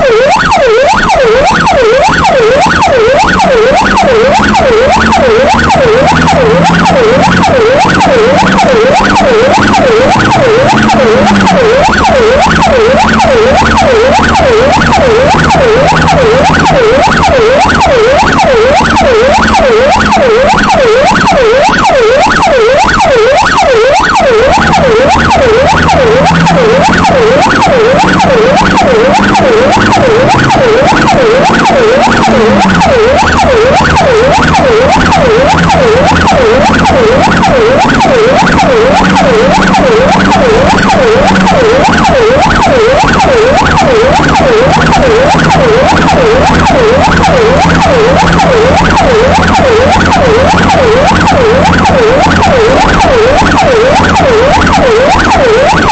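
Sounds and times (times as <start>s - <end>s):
electronic siren yelping: 0.0s - 55.9s.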